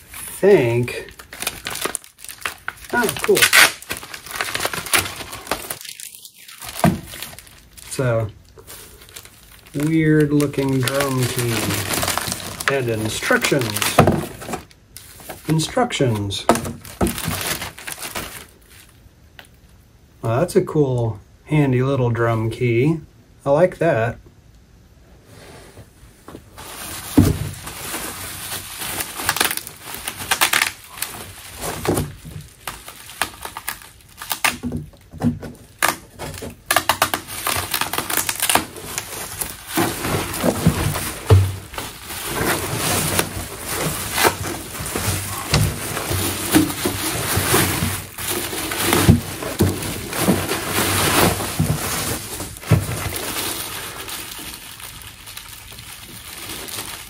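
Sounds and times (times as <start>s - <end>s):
bubble wrap and plastic crinkling: 0.0s - 19.8s, 26.2s - 57.0s.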